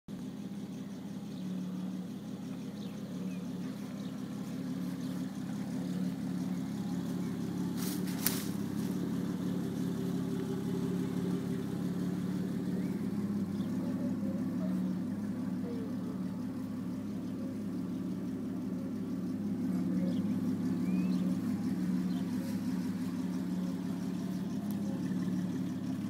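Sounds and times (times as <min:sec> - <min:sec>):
truck engine idling: 0:00.1 - 0:26.0.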